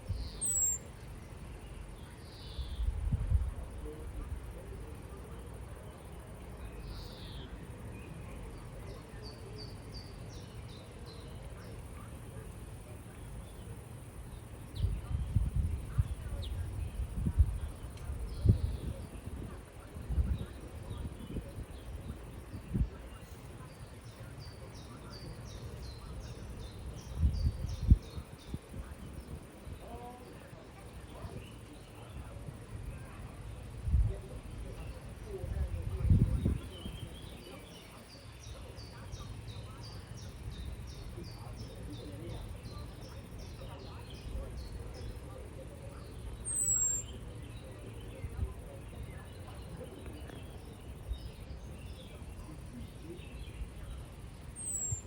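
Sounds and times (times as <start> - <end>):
low outdoor rumble: 0.0 - 55.0
small songbird singing: 0.0 - 55.0.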